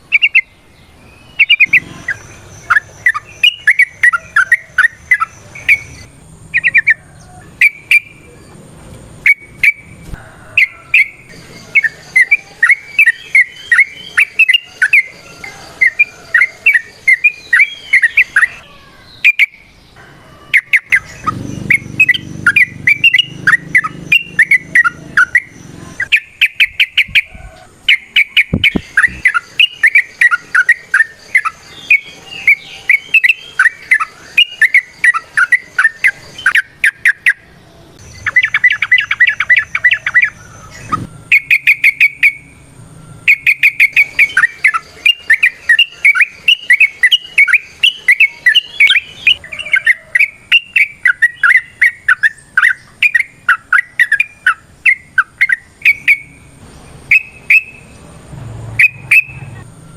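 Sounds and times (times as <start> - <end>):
bird chattering song: 0.0 - 58.1, 58.7 - 59.8.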